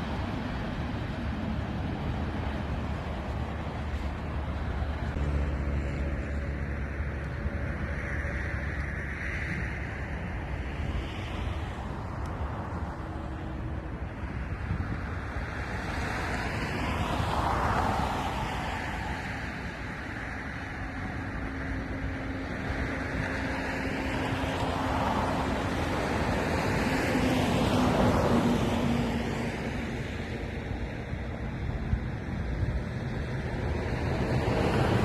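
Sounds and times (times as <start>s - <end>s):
jet engines and air rushing: 0.0s - 35.0s.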